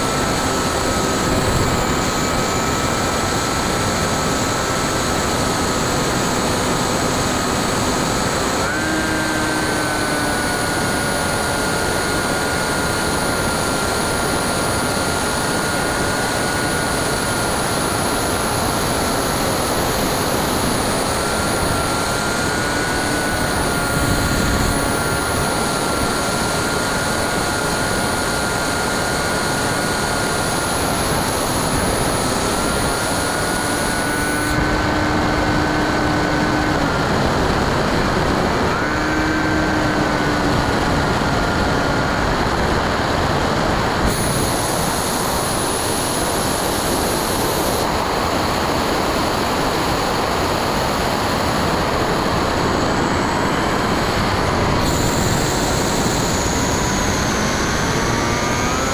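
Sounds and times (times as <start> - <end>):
electric motor and propeller whine: 0.0 - 58.9
wind rush on microphone: 0.0 - 58.9.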